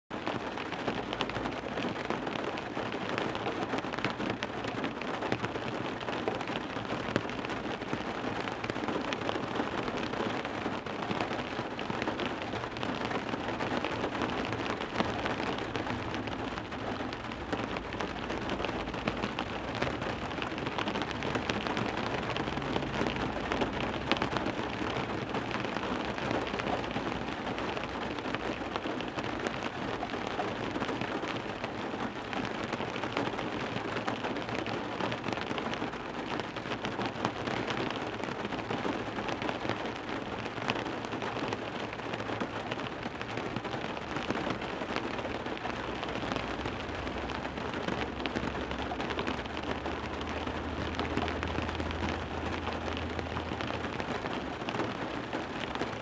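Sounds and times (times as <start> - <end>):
heavy rain on car window: 0.1 - 56.0.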